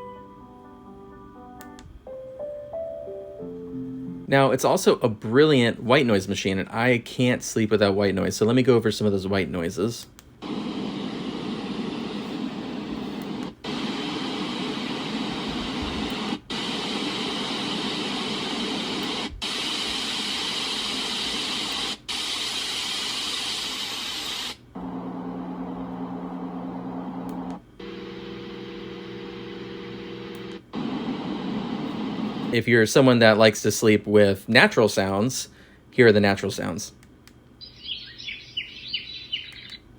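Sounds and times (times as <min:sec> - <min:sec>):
steady multi-tone hum: 0:00.0 - 0:39.9
white noise hiss: 0:00.0 - 0:39.9.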